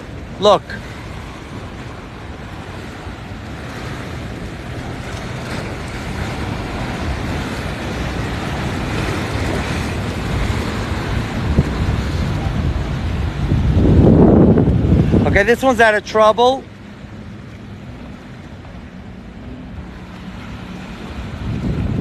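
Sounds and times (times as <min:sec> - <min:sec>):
motorboat engine rumble: 0:00.0 - 0:22.0
surf wash: 0:00.0 - 0:22.0
wind buffeting microphone: 0:00.0 - 0:22.0.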